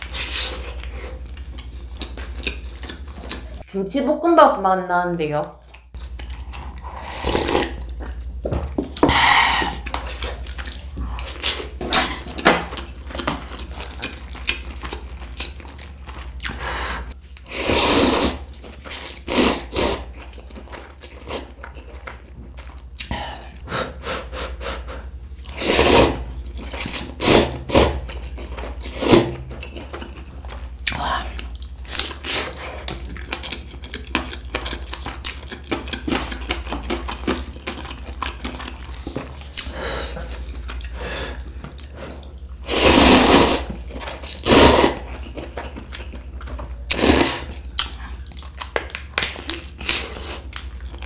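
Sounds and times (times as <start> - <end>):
wet chewing and slurping: 0.0 - 3.7, 5.6 - 8.3, 8.9 - 23.6, 24.6 - 51.0
steady low hum: 0.0 - 51.0.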